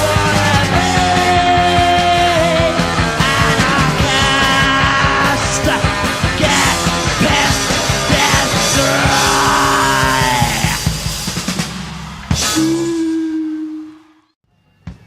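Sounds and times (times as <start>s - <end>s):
punk rock band playing: 0.0s - 13.2s.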